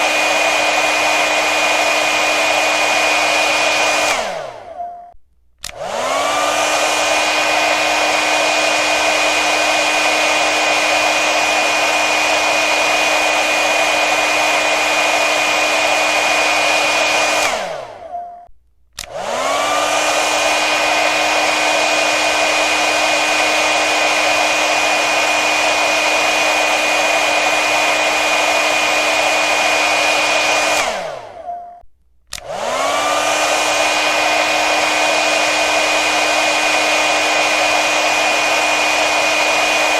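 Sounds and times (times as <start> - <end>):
hair dryer blowing: 0.0 - 4.8, 5.6 - 18.2, 19.0 - 31.5, 32.3 - 39.9.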